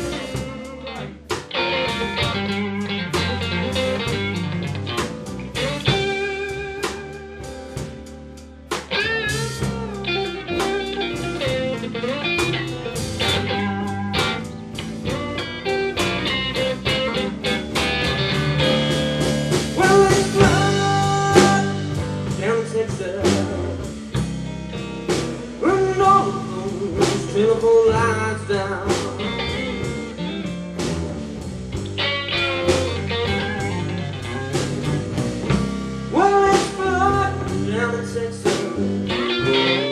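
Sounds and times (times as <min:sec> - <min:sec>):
acoustic rhythm guitar: 0:00.0 - 0:39.9
electric guitar lead with bends: 0:00.0 - 0:39.9.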